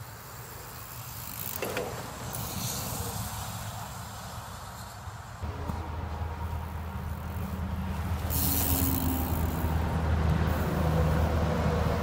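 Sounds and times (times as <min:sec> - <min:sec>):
bike tyres rushing over dirt: 0:00.0 - 0:09.9.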